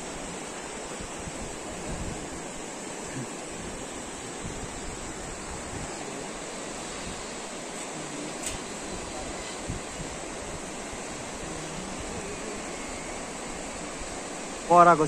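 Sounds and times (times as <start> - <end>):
wind buffeting microphone: 0.0 - 7.7, 8.5 - 14.6
river flowing over stones: 0.0 - 15.0.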